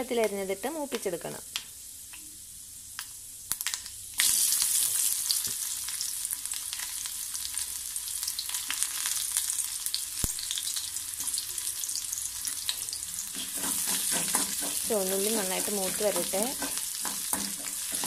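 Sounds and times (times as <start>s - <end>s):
seeds crackling in hot oil: 0.0s - 18.0s
shallots sizzling in oil: 0.0s - 18.0s.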